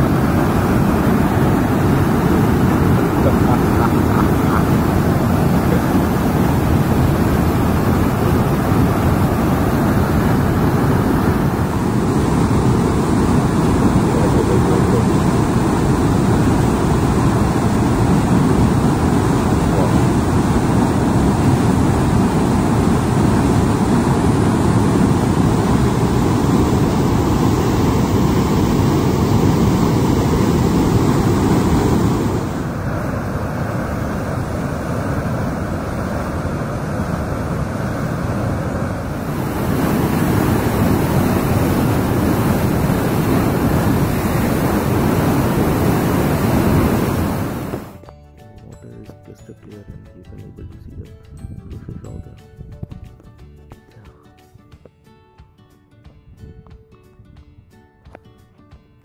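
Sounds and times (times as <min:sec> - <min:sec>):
water cascading down a channel: 0:00.0 - 0:48.0.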